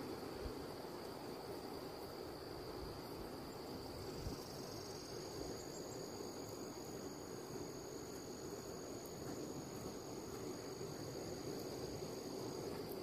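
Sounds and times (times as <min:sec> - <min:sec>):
insects trilling: 0:00.0 - 0:13.0
low rushing background noise: 0:00.0 - 0:13.0.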